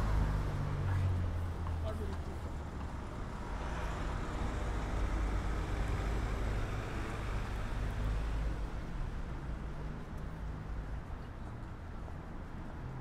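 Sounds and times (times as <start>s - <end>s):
road noise: 0.0s - 13.0s
vehicle engines rumbling: 0.0s - 13.0s.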